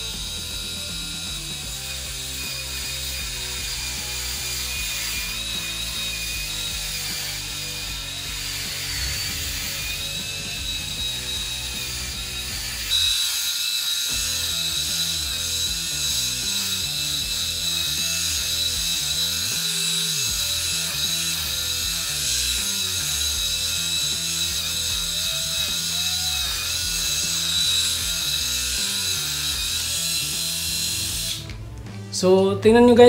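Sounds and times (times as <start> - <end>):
background music: 0.0 - 13.0, 14.2 - 33.0
electric shaver whine and buzz: 0.0 - 32.1.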